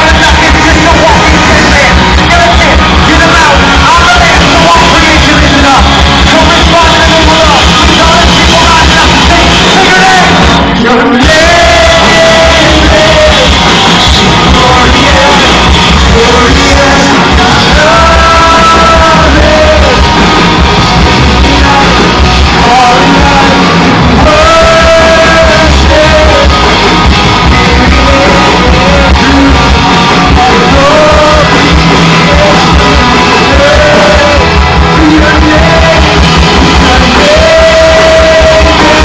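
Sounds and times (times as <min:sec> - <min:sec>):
live rock band playing: 0:00.0 - 0:39.0.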